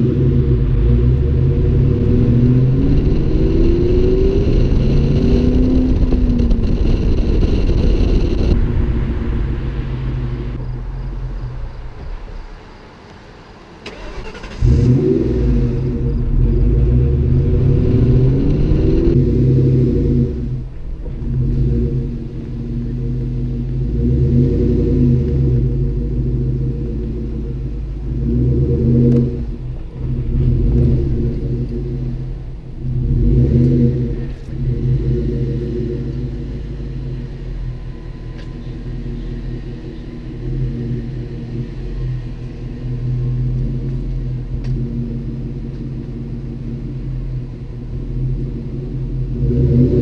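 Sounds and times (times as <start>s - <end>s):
car engine rumbling: 0.0s - 50.0s.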